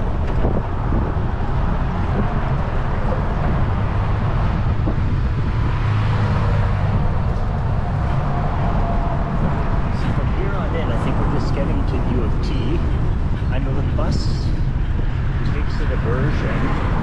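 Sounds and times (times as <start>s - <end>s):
city street traffic: 0.0s - 17.0s
wind buffeting microphone: 0.0s - 17.0s.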